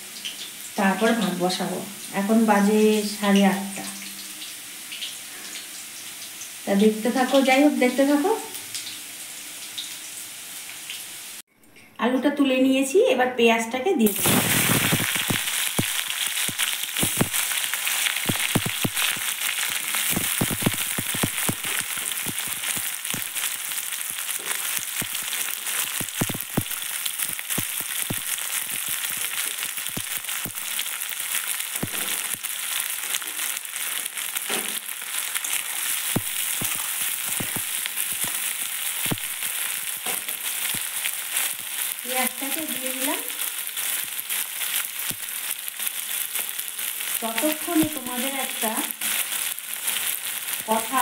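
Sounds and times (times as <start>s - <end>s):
onions sizzling in hot oil: 0.0s - 11.5s, 14.0s - 51.0s.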